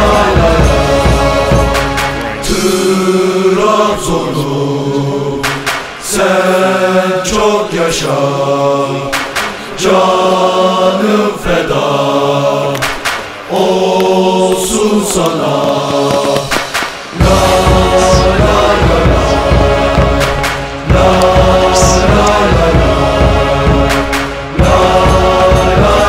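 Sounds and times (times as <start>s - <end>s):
choir chanting long notes: 0.0s - 26.0s.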